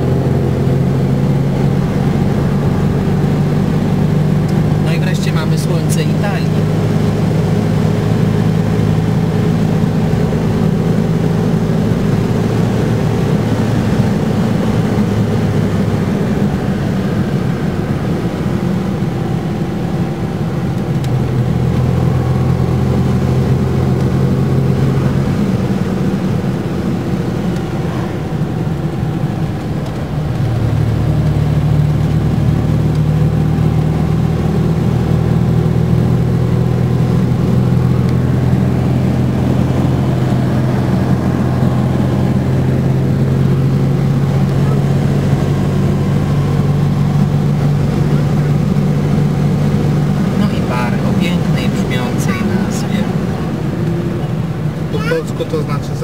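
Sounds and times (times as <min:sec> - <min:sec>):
road noise: 0:00.0 - 0:56.0
vehicle engine hum: 0:00.0 - 0:56.0.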